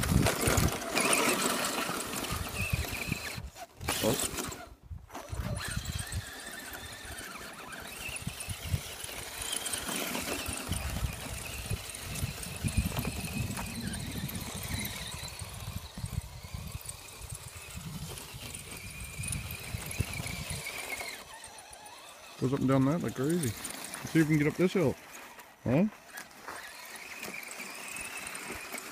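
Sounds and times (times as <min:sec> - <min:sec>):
electric motor whining: 0:00.0 - 0:28.9.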